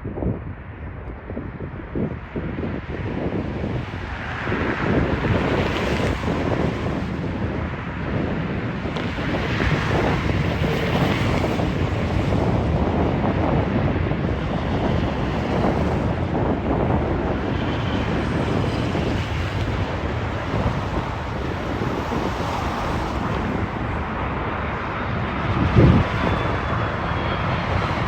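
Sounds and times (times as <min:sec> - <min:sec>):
jet airliner rumble: 0:00.0 - 0:28.0
wind buffeting microphone: 0:00.0 - 0:28.0
high engine whine: 0:00.4 - 0:28.0.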